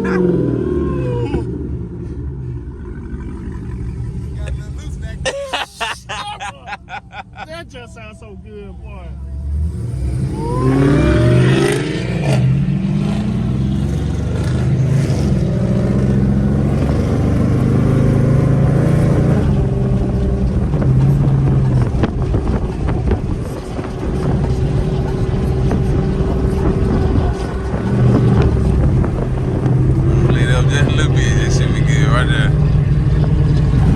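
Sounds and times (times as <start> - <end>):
car engine revving: 0.0 - 6.4, 9.0 - 33.9.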